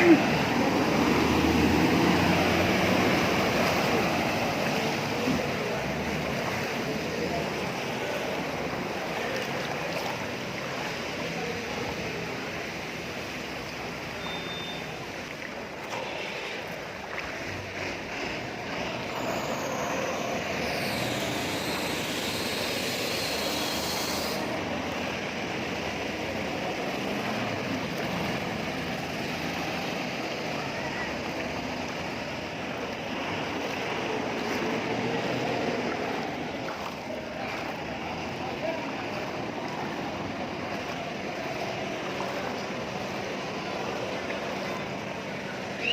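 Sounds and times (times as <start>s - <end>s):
bus engine hum: 0.0s - 45.9s
tyre and road noise: 0.0s - 45.9s.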